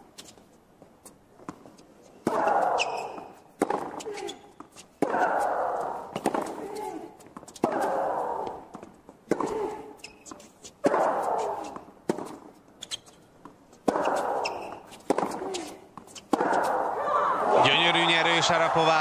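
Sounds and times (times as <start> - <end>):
racket hitting tennis ball: 1.4 - 17.0.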